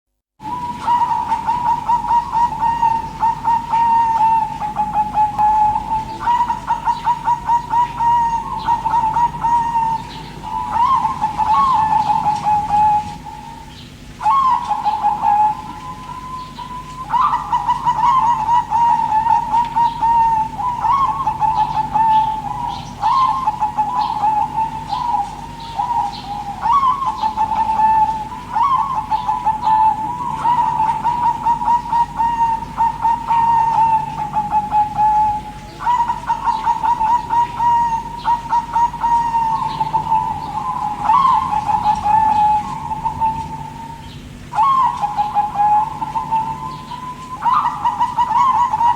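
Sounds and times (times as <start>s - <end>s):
doves cooing: 0.4s - 48.9s.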